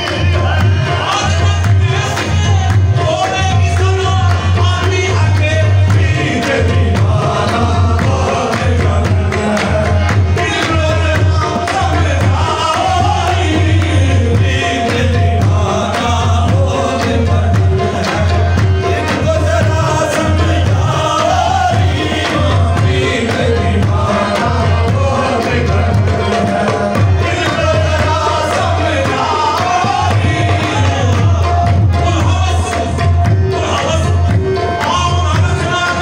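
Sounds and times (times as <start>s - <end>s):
sharp percussive beat: 0.0s - 36.0s
voices singing devotional song: 0.0s - 36.0s.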